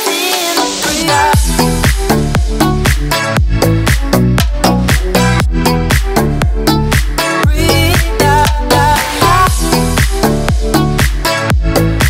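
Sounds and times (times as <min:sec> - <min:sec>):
electronic dance music: 0:00.0 - 0:12.0
fast drum beat: 0:00.9 - 0:12.0.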